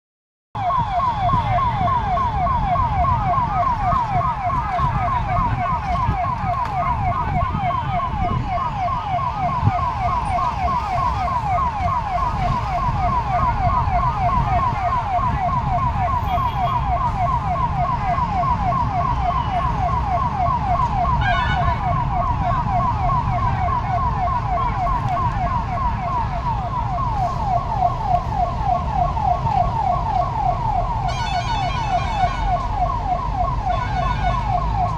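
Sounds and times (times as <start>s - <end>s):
emergency vehicle siren yelping: 0.6s - 34.9s
engine and traffic rumble: 0.6s - 34.9s.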